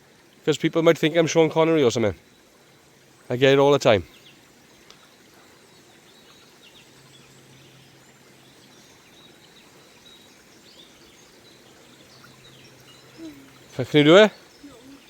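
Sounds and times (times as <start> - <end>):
distant birds chirping: 0.0 - 15.0
low steady hum: 0.0 - 15.0.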